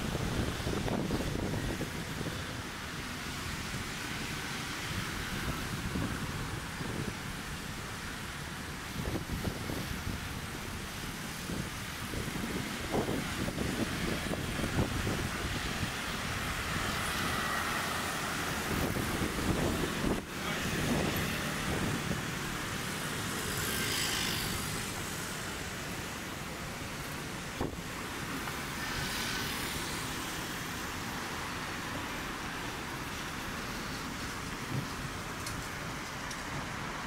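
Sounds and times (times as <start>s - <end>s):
passing vehicles: 0.0s - 37.0s.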